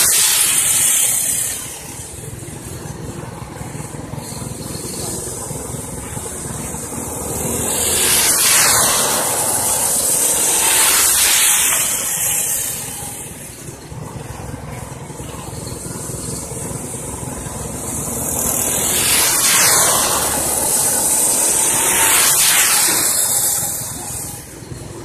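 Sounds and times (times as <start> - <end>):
race car engines droning: 0.0 - 25.0
race cars passing by: 0.0 - 25.0.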